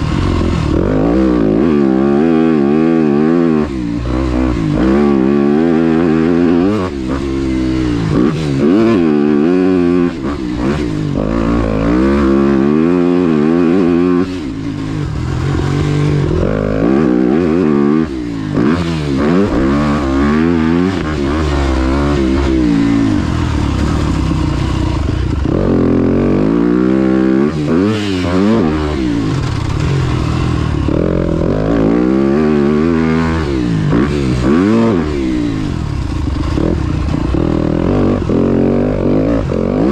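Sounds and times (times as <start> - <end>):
dirt bike engine revving: 0.0 - 39.9
clatter: 4.1 - 39.9.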